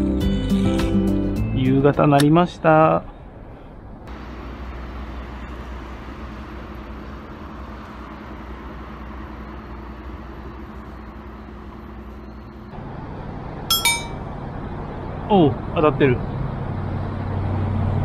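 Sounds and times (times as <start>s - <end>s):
road traffic hum: 1.8s - 18.0s.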